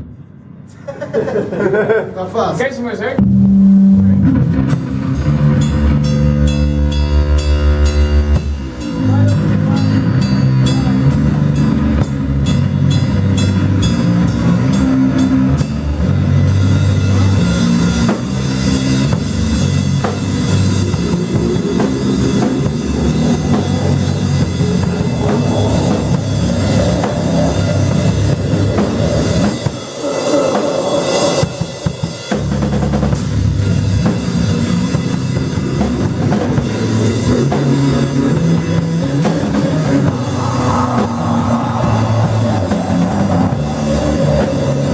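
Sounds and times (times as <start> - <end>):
drums and cymbals: 2.8 - 44.9
noise rock band playing: 3.1 - 44.9
low bass notes: 3.2 - 44.9.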